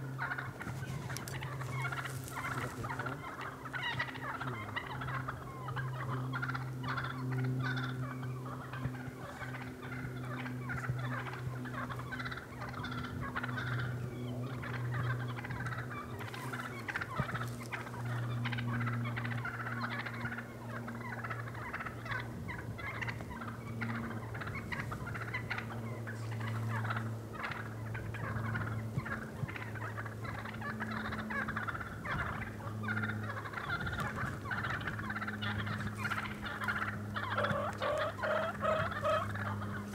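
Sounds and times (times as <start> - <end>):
steady low hum: 0.0 - 39.9
turkeys gobbling and calling: 0.0 - 39.9.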